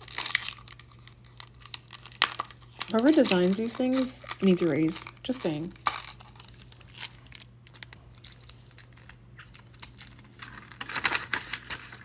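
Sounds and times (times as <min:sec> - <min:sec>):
faint electrical hum: 0:00.0 - 0:12.0
packaging crinkling and tearing: 0:00.0 - 0:12.0.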